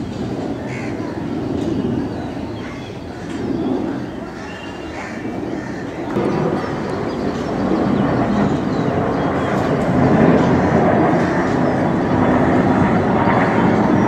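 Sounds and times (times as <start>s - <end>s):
jet engines flying overhead: 0.0s - 14.0s.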